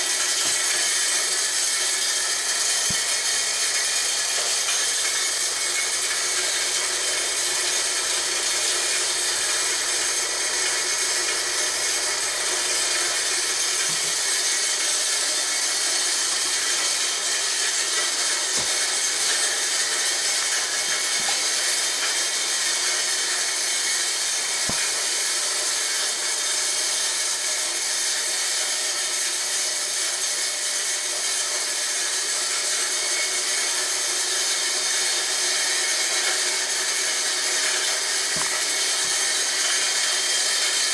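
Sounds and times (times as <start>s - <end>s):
corn grinder grinding: 0.0s - 27.8s, 31.0s - 40.9s.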